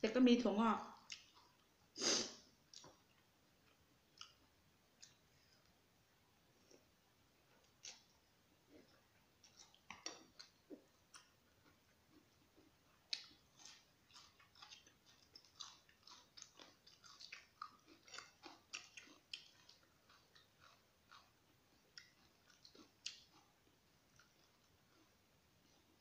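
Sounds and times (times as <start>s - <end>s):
wet chewing sounds: 1.0s - 1.8s, 2.6s - 5.7s, 7.5s - 26.0s.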